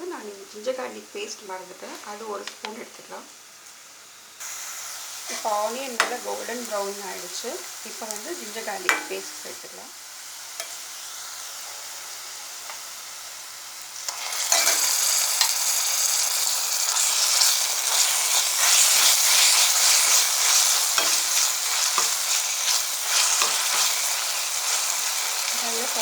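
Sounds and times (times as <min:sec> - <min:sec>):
onions sizzling in hot oil: 0:00.1 - 0:26.0.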